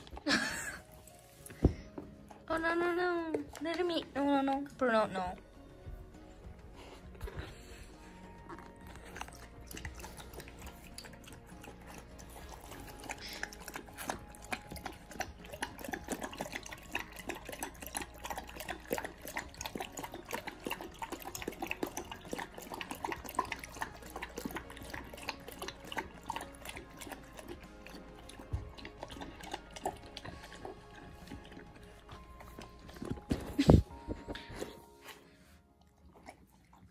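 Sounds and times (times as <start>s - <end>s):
puppies lapping water: 0.0s - 36.9s.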